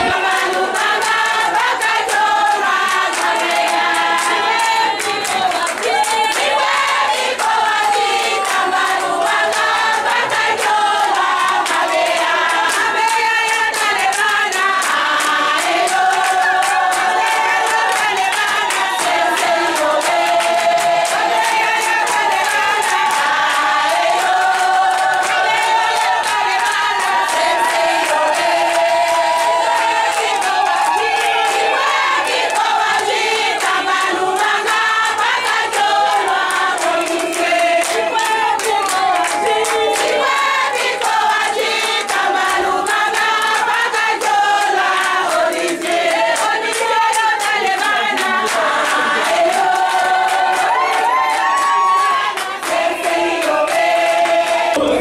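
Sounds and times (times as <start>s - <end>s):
hand clapping: 0.0s - 55.0s
women singing in chorus: 0.0s - 55.0s.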